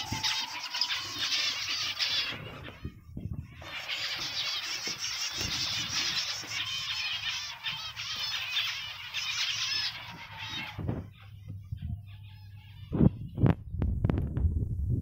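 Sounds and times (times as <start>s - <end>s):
cage birds chirping: 0.0s - 13.8s.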